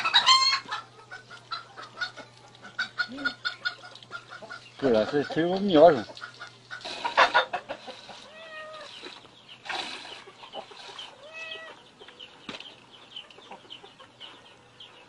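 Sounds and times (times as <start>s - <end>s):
chickens clucking and peeping: 0.0s - 15.0s.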